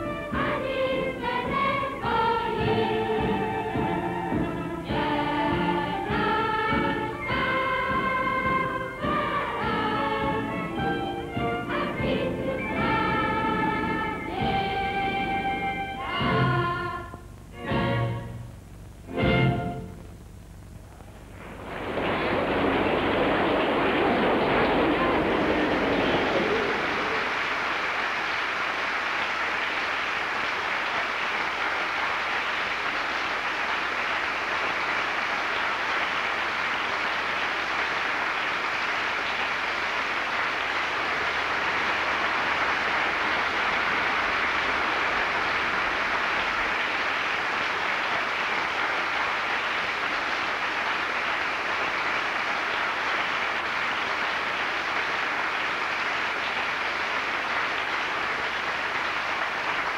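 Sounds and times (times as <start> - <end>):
audience applauding: 0.0 - 16.9, 20.8 - 59.9.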